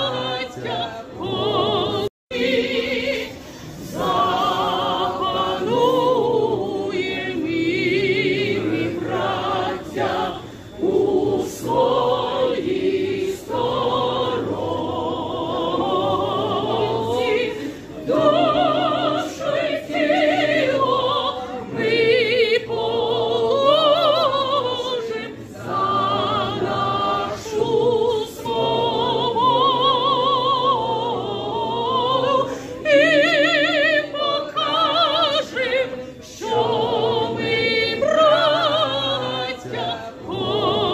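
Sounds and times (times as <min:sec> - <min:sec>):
crowd singing in unison: 0:00.0 - 0:40.9.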